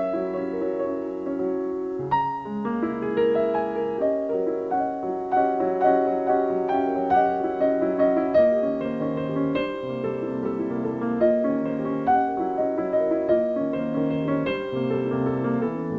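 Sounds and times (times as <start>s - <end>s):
solo piano playing classical: 0.0s - 15.9s.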